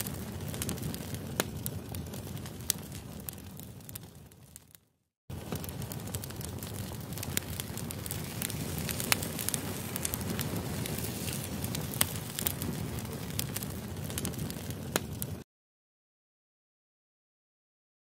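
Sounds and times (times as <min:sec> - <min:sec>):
crackles and sharp clicks: 0:00.0 - 0:15.4.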